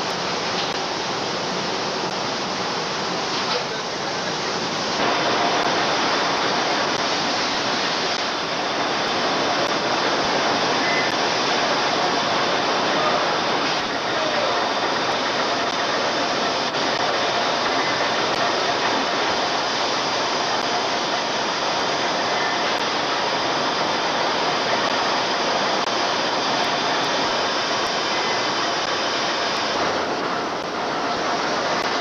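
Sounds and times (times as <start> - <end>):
factory machinery roar: 0.0 - 32.0.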